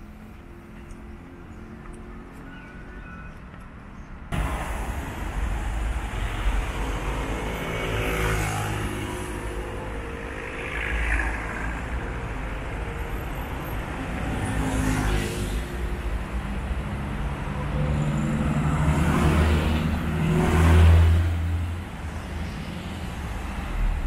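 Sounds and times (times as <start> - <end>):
road traffic rumble: 0.0 - 24.0
vehicles passing close: 0.0 - 24.0.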